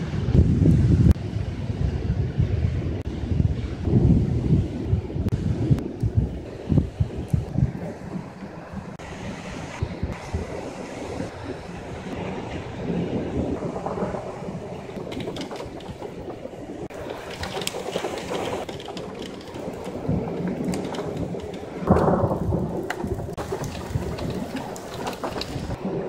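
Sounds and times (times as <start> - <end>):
steady rain: 0.0 - 26.0
thunder rumbling: 0.0 - 26.0.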